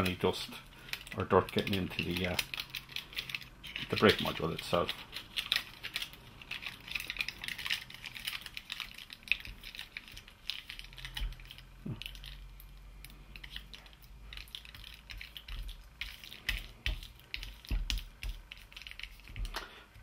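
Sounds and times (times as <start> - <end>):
tape crackling under fingers: 0.0 - 19.7.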